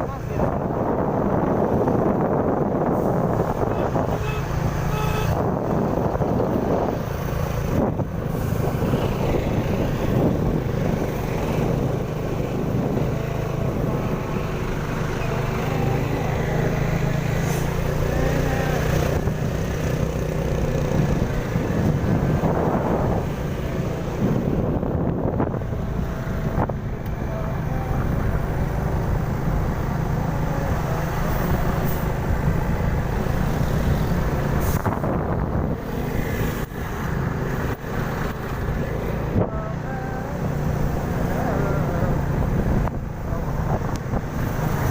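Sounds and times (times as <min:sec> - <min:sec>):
car and truck engines humming: 0:00.0 - 0:44.9.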